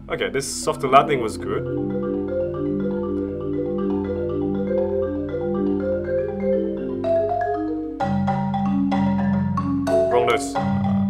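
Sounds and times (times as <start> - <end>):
marimba played with mallets: 0.7 - 11.0.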